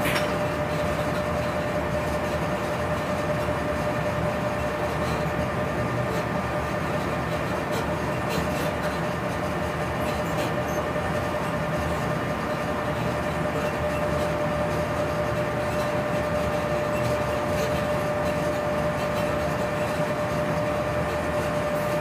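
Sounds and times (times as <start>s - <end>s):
train rolling noise: 0.0s - 22.0s.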